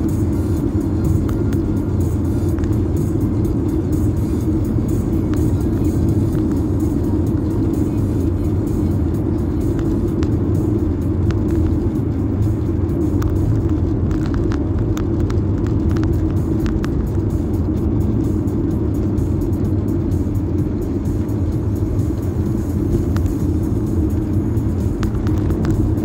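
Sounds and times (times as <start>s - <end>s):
car cabin road and engine rumble: 0.0s - 26.0s
tyres on wet asphalt: 0.0s - 26.0s.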